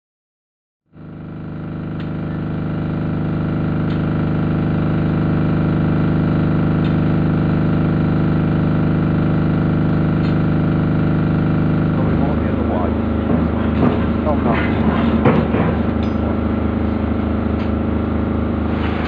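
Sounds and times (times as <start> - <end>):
engine idling: 0.9 - 19.0.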